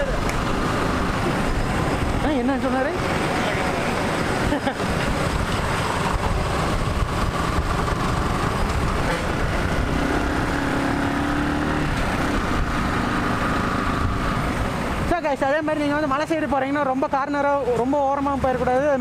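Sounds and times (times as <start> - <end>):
motorcycle engine running: 0.0 - 16.5
wind and road noise: 0.0 - 19.0.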